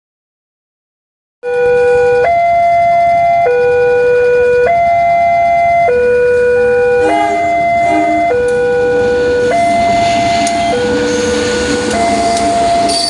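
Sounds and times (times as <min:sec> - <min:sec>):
two-tone warning siren: 0:01.4 - 0:13.0.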